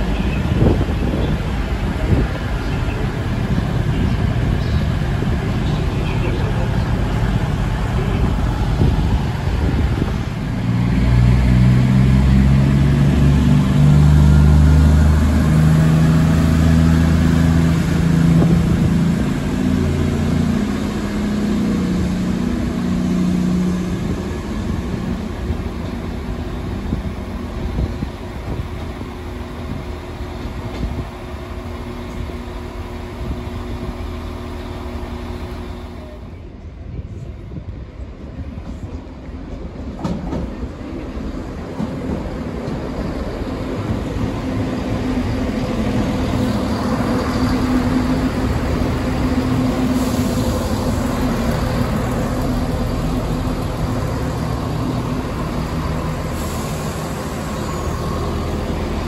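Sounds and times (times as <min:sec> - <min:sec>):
diesel train engines working hard: 0:00.0 - 0:59.0.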